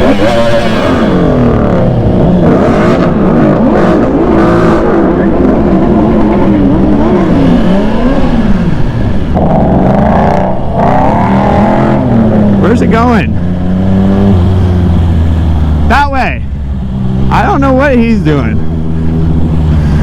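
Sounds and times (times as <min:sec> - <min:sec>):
engines revving: 0:00.0 - 0:20.0
higher-revving engine: 0:00.0 - 0:20.0.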